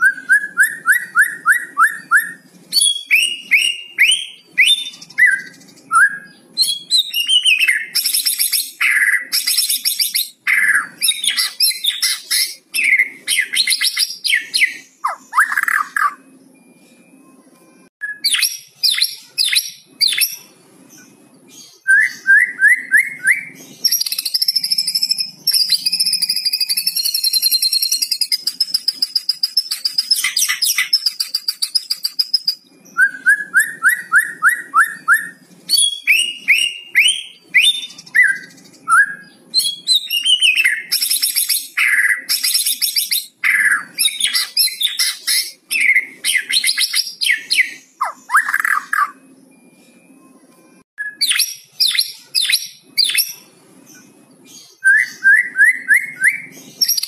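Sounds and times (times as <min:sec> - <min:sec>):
bird song with whistles: 0:00.0 - 0:57.0.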